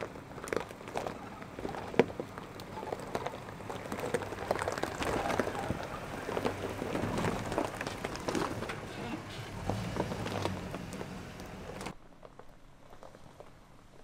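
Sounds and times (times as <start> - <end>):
low engine hum: 0.0 - 12.0
tyres crunching over twigs: 0.0 - 13.6.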